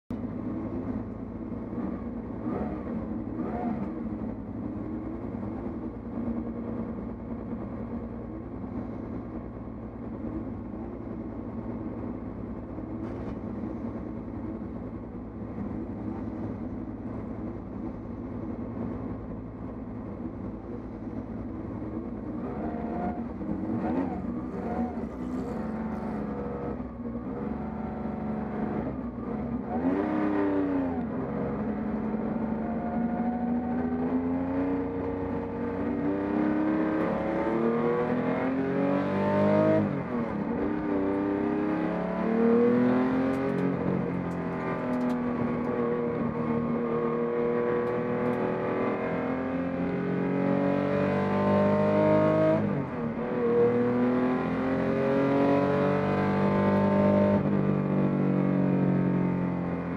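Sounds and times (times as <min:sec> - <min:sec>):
car engine idling and revving: 0:00.1 - 0:59.9.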